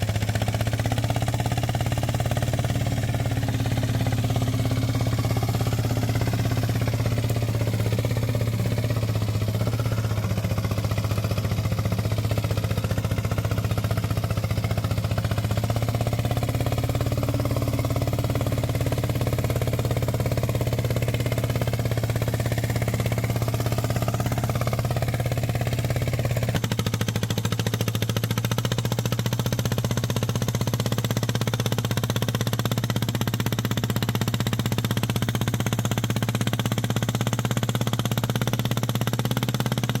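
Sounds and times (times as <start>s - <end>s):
small tractor engine running: 0.0s - 40.0s.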